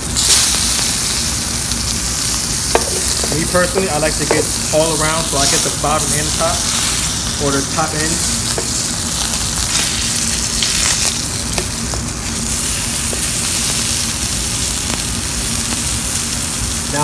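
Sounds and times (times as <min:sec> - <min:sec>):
steak sizzling with pops: 0:00.0 - 0:17.0.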